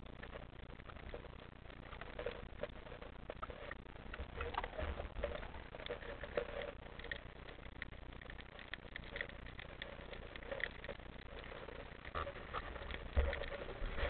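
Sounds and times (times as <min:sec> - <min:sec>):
low rumble of moving water: 0:00.0 - 0:14.0.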